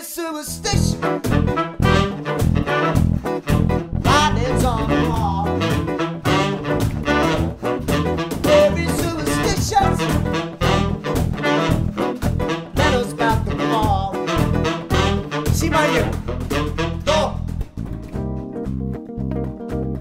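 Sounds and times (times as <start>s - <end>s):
band playing swing music: 0.5s - 20.0s
saxophone: 0.6s - 17.6s
trumpet: 0.7s - 17.5s.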